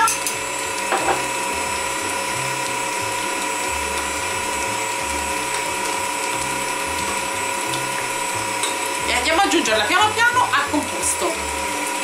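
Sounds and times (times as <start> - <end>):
stand mixer whining: 0.0 - 12.0.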